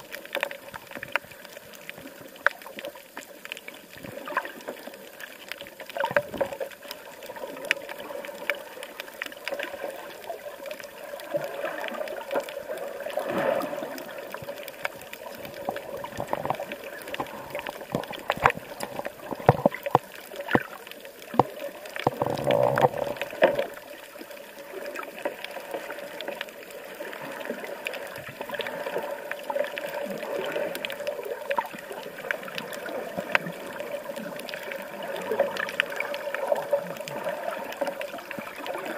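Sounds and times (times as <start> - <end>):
clicks and crackles: 0.0 - 38.9
water sloshing underwater: 0.0 - 38.9.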